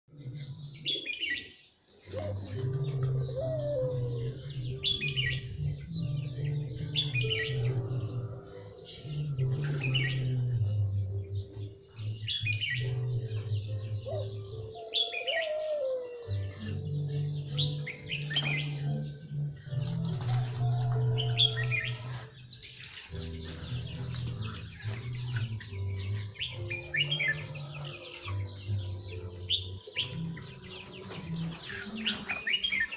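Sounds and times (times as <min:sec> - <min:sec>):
songbird chirping: 0:00.1 - 0:32.9.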